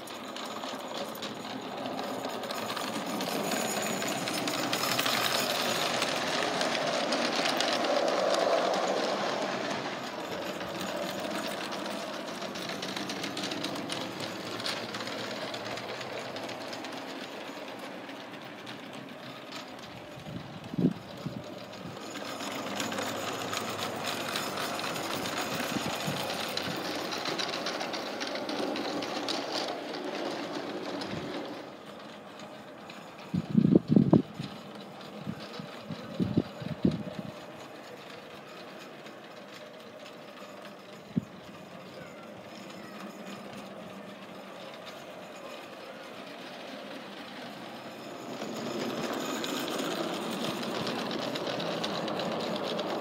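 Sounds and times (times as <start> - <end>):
model train wheels rattling on rail: 0.0 - 53.0.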